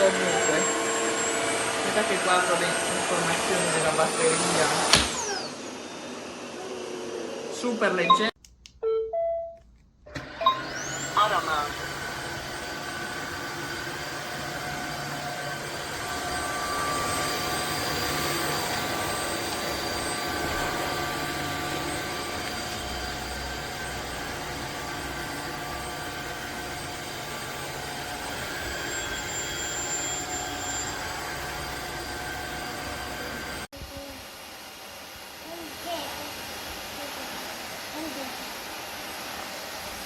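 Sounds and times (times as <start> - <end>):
vacuum mop motor whine: 0.0 - 8.3, 10.1 - 40.0.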